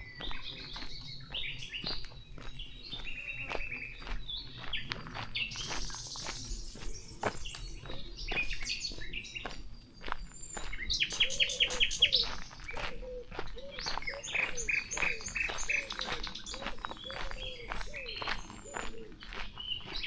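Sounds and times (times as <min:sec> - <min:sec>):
wild birds chirping and calling: 0:00.0 - 0:20.0.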